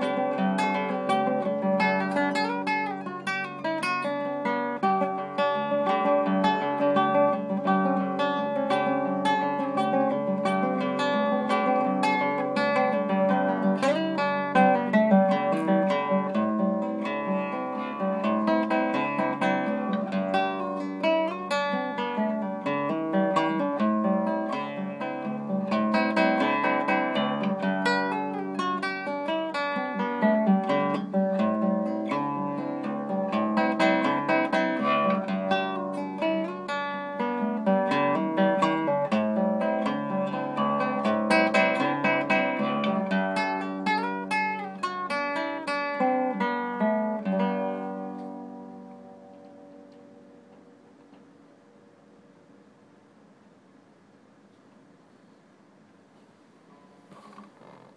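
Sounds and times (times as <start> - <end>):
classical guitar fingerstyle: 0.0 - 52.2, 56.6 - 57.9.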